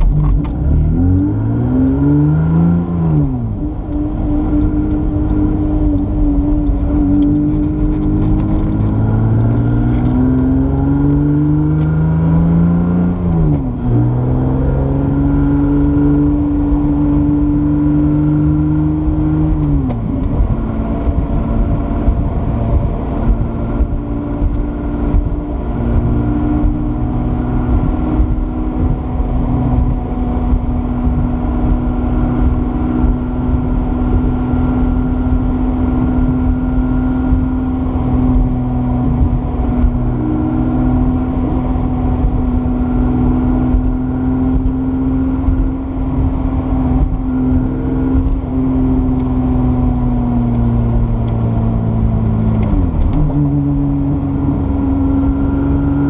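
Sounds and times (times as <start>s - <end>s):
car engine cruising: 0.0s - 56.0s
road and tyre noise: 0.0s - 56.0s.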